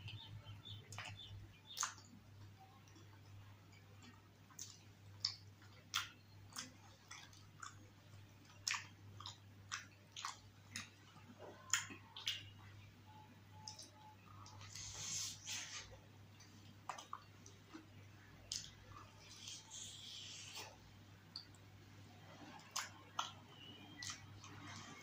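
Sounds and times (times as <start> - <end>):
faint steady hum: 0.0 - 25.0
mouth chewing soft food: 0.1 - 25.0.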